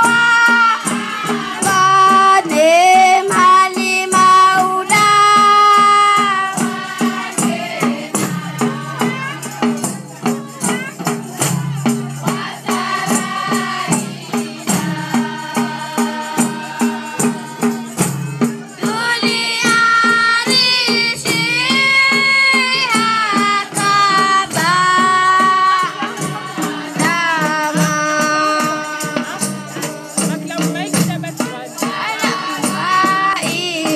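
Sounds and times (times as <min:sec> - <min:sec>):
rattling percussion beat: 0:00.0 - 0:33.9.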